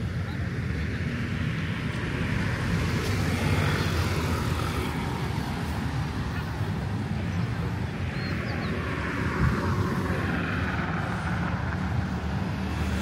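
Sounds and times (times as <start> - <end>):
steady low traffic rumble: 0.0 - 13.0
vehicle passing: 1.5 - 13.0.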